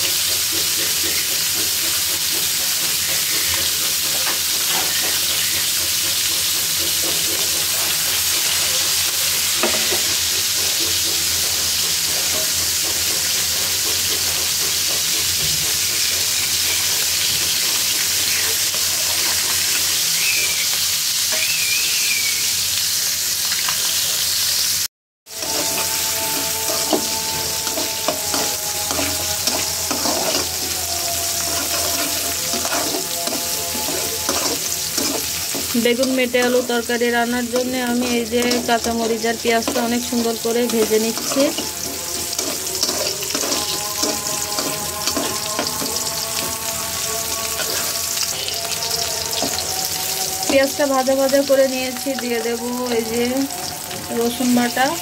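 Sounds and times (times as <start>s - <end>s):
fish sizzling in hot oil: 0.0s - 55.0s
onions sizzling in oil: 0.0s - 55.0s
spatula scraping a pan: 0.1s - 21.6s, 25.3s - 54.7s.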